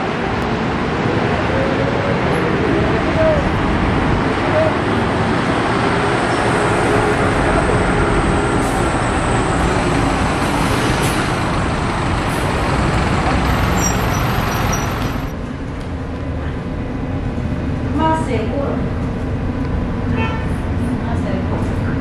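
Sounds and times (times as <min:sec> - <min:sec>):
buses passing: 0:00.0 - 0:22.0
city street traffic: 0:00.0 - 0:22.0.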